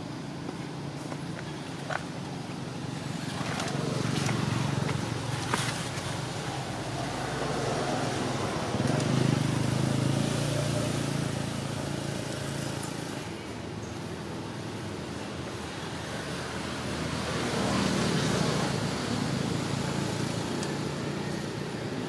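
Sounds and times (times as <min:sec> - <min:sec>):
traffic engine hum: 0:00.0 - 0:22.0.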